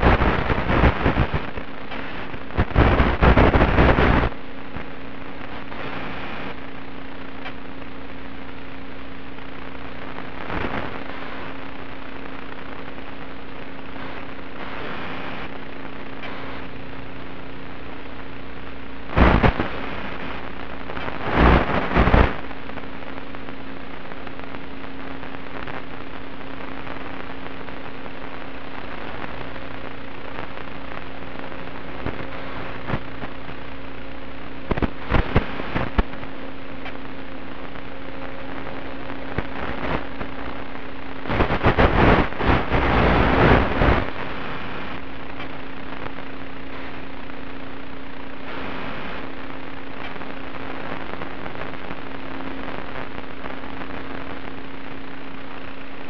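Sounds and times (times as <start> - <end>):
loud radio crackling bursts: 0.0 - 56.0
steady hiss with low hum: 0.0 - 56.0.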